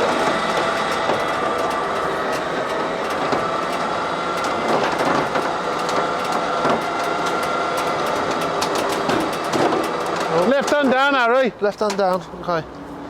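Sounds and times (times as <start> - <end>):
winch whining and clicking: 0.0 - 12.3.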